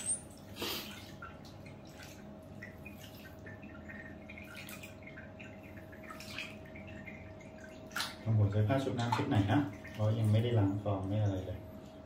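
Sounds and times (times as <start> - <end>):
water dripping into basin: 0.0 - 12.0.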